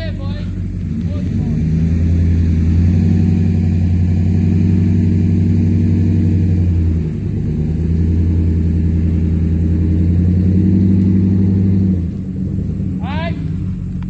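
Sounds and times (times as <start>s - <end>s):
truck engine running under load: 0.0s - 14.0s.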